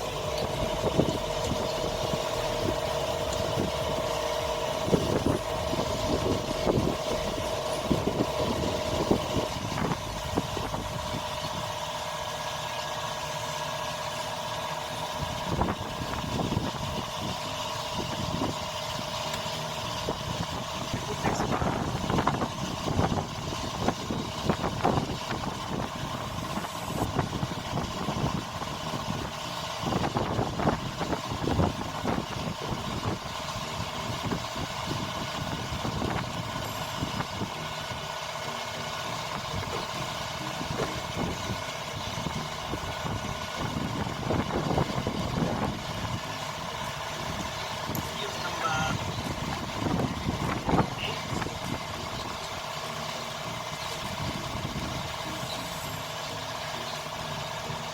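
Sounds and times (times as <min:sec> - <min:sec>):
engine hum: 0:00.0 - 0:57.9.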